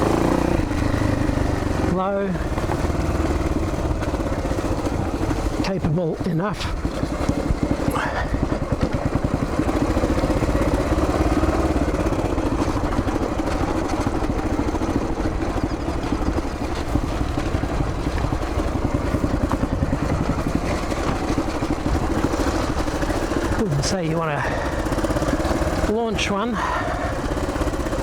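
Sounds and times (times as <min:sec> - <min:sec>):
motorcycle engine thumping: 0:00.0 - 0:28.0.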